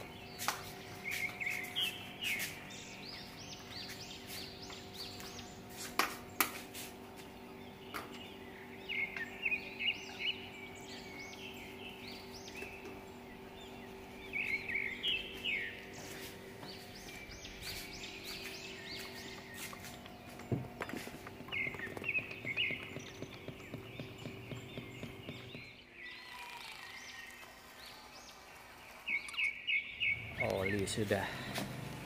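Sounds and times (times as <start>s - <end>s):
steady low hum: 0.0s - 25.9s
bird chirping: 0.0s - 32.0s.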